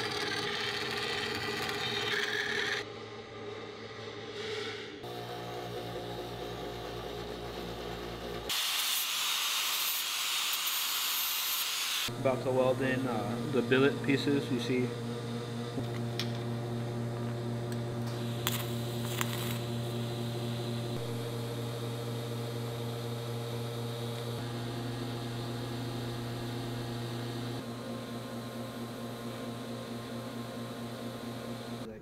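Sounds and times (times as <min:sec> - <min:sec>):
welding arc humming: 0:05.0 - 0:31.9.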